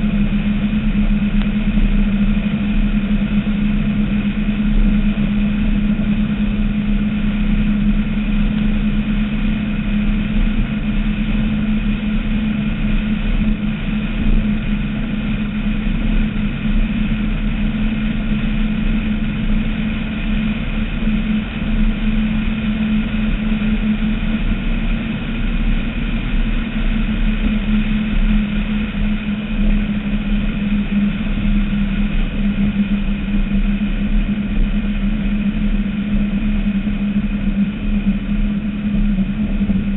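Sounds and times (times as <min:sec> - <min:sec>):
powerboat engines droning: 0:00.0 - 0:39.9.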